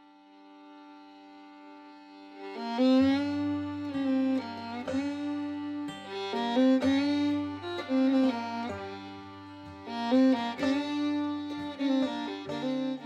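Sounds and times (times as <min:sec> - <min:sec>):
instrumental music with fiddle: 0:00.0 - 0:13.0.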